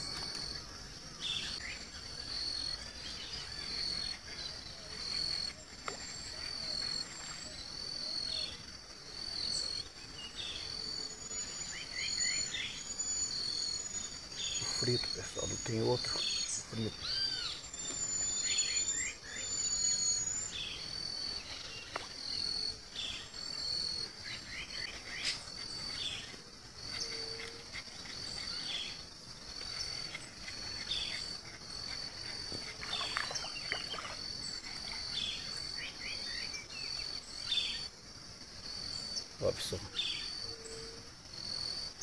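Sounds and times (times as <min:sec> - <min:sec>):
insects buzzing and chirping: 0:00.0 - 0:42.0.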